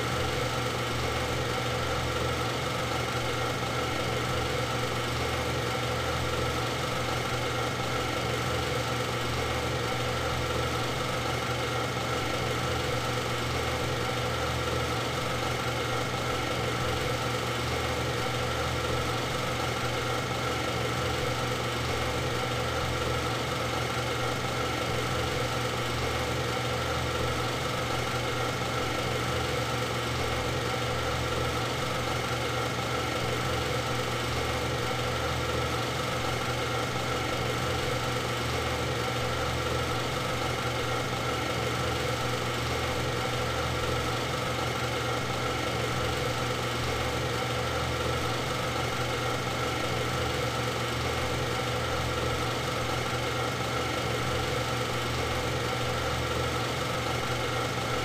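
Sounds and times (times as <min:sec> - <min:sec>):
machine humming steadily: 0:00.0 - 0:58.0.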